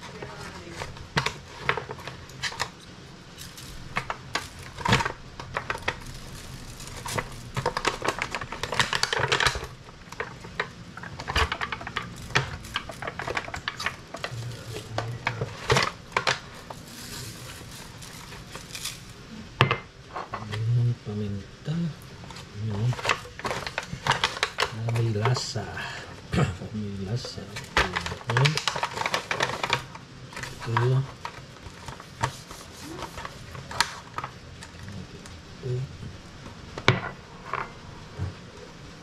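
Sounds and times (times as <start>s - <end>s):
scraping and rustling: 0.0s - 19.4s, 22.2s - 26.2s, 27.1s - 35.3s.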